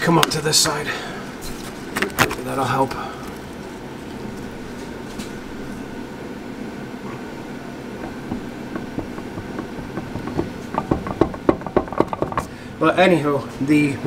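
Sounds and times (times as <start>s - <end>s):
wheel bearing rumbling: 1.4s - 13.3s.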